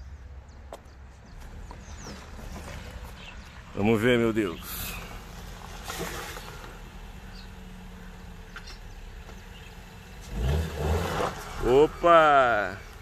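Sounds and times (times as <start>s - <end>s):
pickup engine running at low revs: 1.4s - 13.0s.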